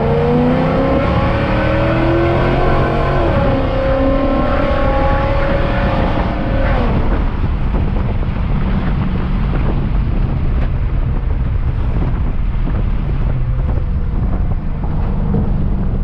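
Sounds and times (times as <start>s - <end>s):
car engine drone: 0.0s - 16.0s
road noise: 0.0s - 16.0s
wind buffeting microphone: 0.0s - 16.0s.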